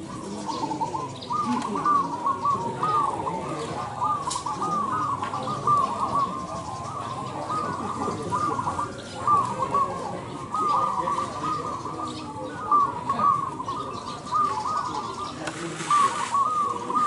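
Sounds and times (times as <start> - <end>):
doves cooing: 0.0 - 17.0.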